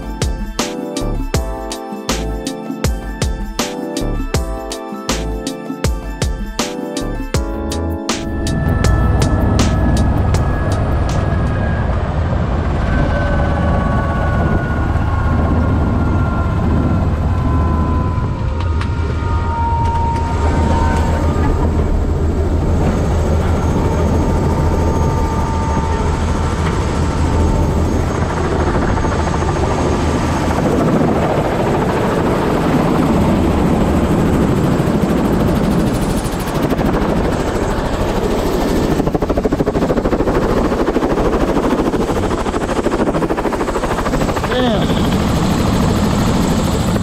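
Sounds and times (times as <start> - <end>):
helicopter rotor running: 0.0 - 47.0.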